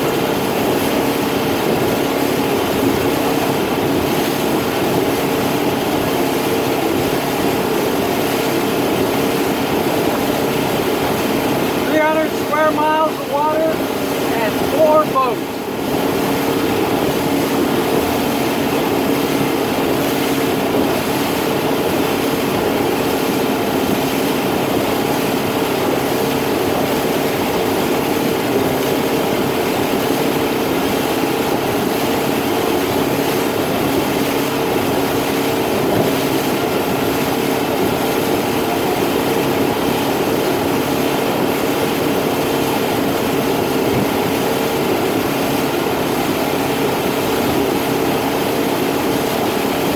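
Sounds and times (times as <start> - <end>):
motorboat engine droning: 0.0 - 49.9
wind and water rushing: 0.0 - 49.9.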